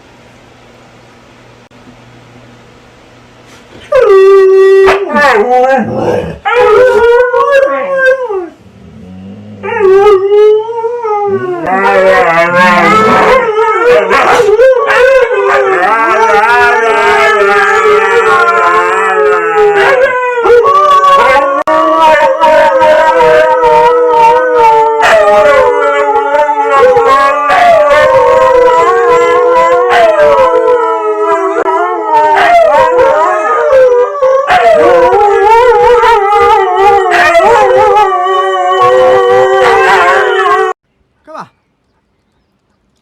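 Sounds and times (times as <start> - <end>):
dog howling: 3.9 - 40.8.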